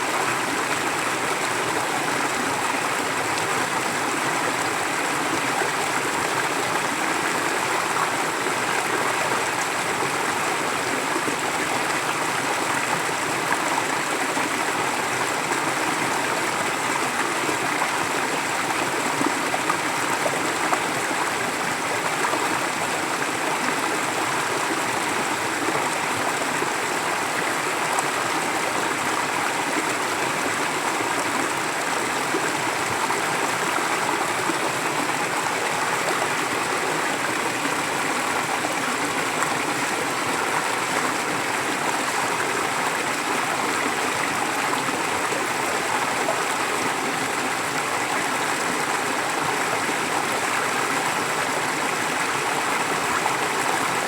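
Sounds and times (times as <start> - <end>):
stream flowing with gurgling: 0.0 - 54.0.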